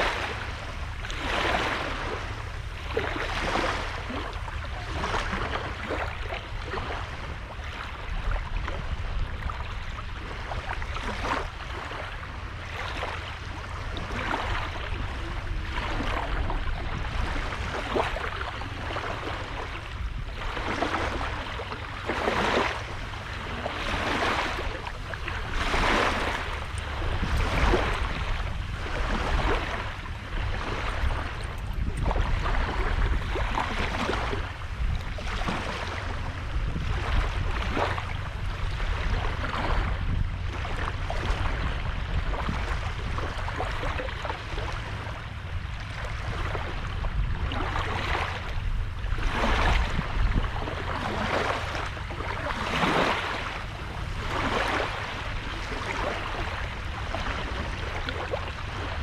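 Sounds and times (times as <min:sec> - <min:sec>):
small waves washing ashore: 0:00.0 - 0:59.0
wind rumble on microphone: 0:00.0 - 0:59.0.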